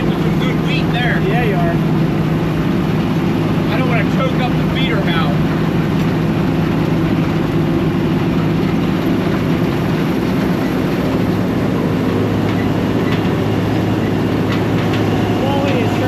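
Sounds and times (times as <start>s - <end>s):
combine harvester engine running: 0.0s - 16.0s.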